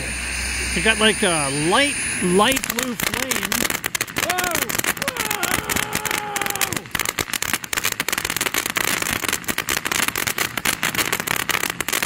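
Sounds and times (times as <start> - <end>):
firework crackling: 0.7 - 12.0.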